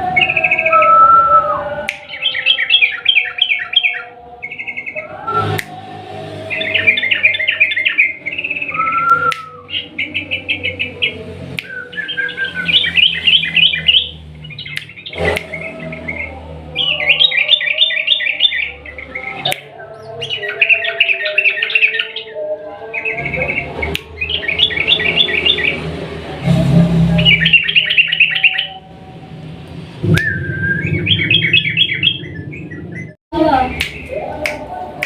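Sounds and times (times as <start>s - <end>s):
bulbul singing bubbling song: 0.0s - 5.7s, 6.3s - 25.9s, 27.1s - 29.2s, 30.0s - 34.1s.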